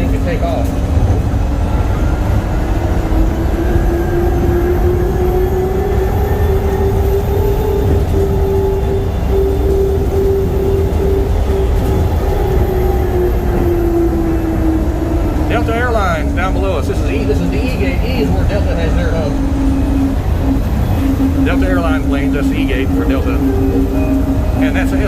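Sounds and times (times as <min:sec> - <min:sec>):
train running gear rumble: 0:00.0 - 0:25.0.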